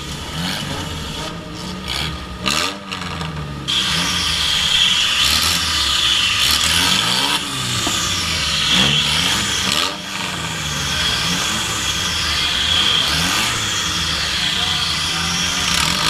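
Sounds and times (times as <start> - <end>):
car engine revving: 0.0 - 16.0
other car engines running: 0.0 - 16.0.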